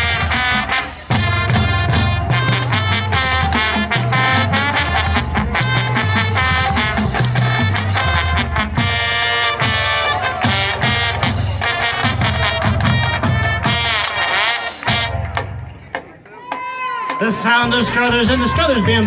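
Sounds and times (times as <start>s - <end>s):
drum hits: 0.0s - 19.0s
marching band playing: 0.0s - 19.0s.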